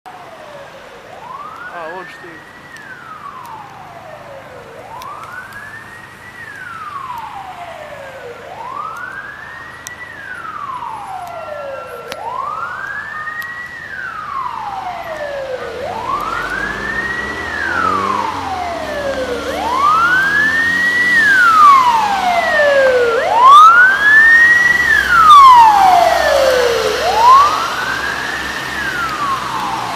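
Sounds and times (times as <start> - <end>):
ambulance siren wailing: 0.1 - 29.9
van engine and tyres: 0.1 - 29.9.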